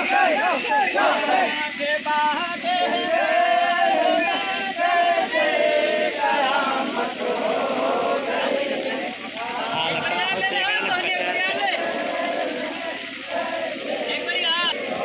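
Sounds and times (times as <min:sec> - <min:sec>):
voices singing a chant: 0:00.0 - 0:15.0.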